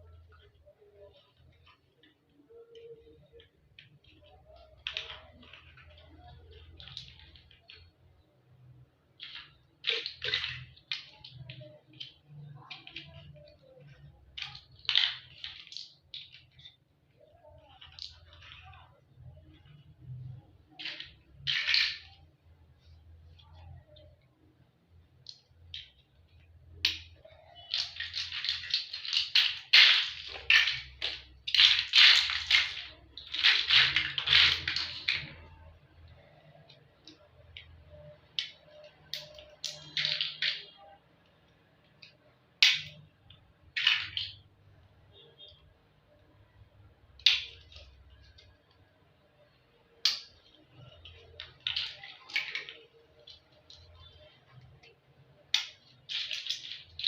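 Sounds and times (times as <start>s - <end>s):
toy blocks clattering and clicking: 0.0s - 57.0s.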